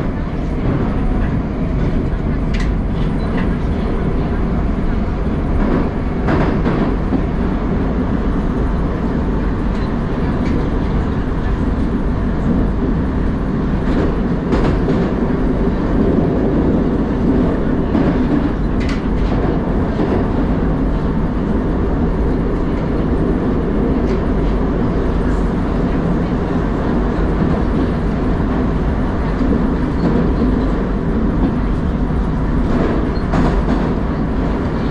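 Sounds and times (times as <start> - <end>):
metro train rumbling at speed: 0.0 - 34.9.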